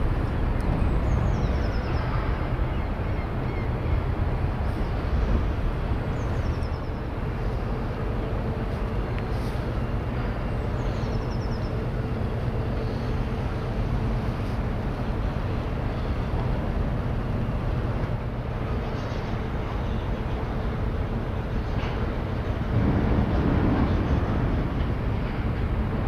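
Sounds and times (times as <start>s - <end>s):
ship engines droning: 0.0s - 26.0s.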